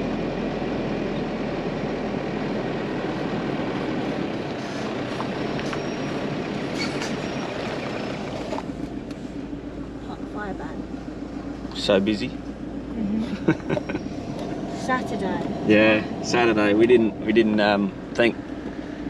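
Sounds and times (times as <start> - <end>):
vehicle engine and tyre noise: 0.0 - 19.0.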